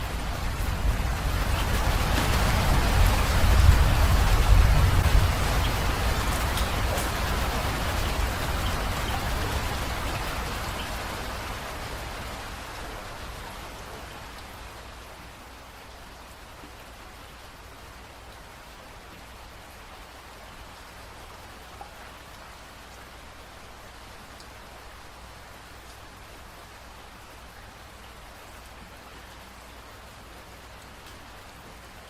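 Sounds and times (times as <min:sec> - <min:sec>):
individual raindrops: 0:00.0 - 0:32.0
rain falling: 0:00.0 - 0:32.0.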